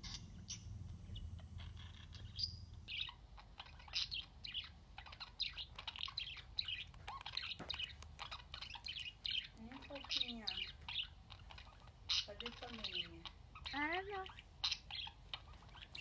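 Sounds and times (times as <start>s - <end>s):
budgerigar chirping: 0.0s - 16.0s.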